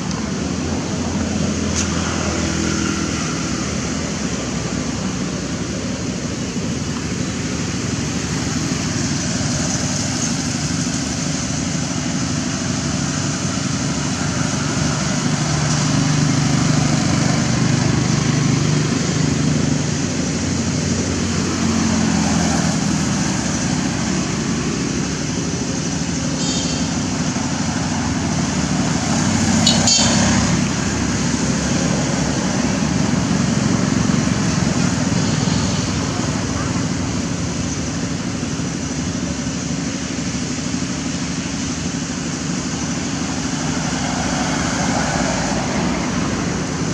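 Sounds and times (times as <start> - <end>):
passing vehicle engines: 0.0 - 46.9
road traffic: 0.0 - 46.9.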